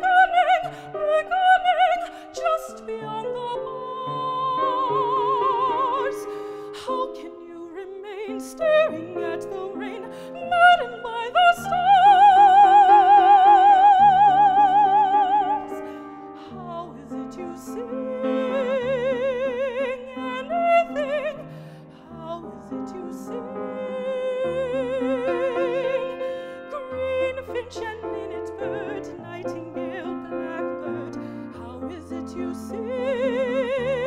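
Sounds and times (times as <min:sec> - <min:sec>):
piano accompaniment: 0:00.0 - 0:34.0
soprano singing with vibrato: 0:00.0 - 0:34.0.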